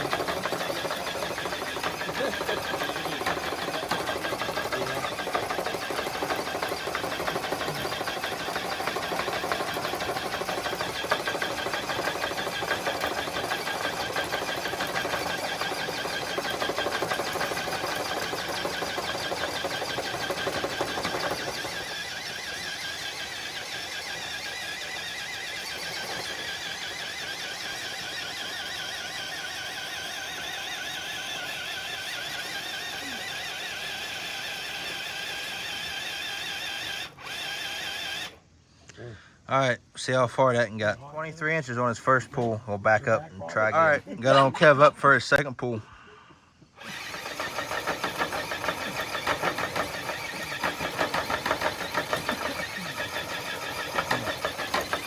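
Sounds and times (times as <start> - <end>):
rc truck motor whirring: 0.0 - 38.6, 46.6 - 55.0.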